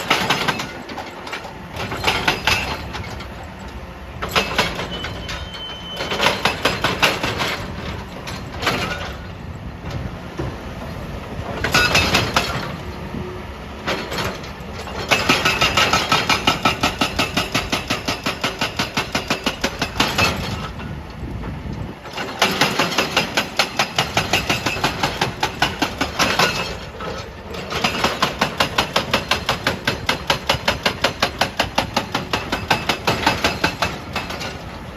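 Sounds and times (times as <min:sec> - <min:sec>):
hydraulic breaker hammering rock: 0:00.0 - 0:03.4, 0:04.2 - 0:09.2, 0:11.5 - 0:12.9, 0:13.8 - 0:20.9, 0:22.0 - 0:34.8.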